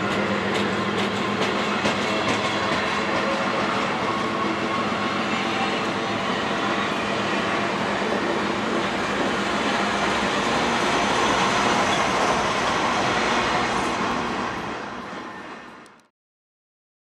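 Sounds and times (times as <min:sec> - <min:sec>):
diesel locomotive passing: 0:00.0 - 0:16.1
train passing: 0:00.0 - 0:16.1.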